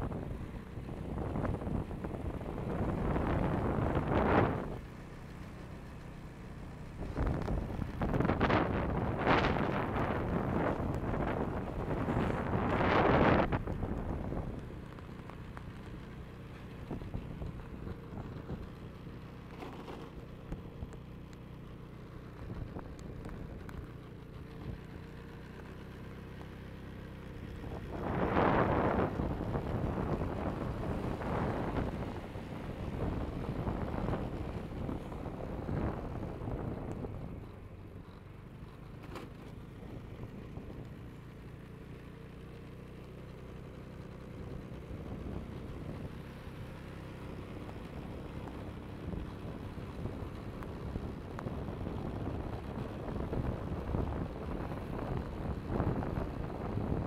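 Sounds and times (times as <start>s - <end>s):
car engine hum inside cabin: 0.0s - 57.0s
tyre and road noise: 0.0s - 57.0s.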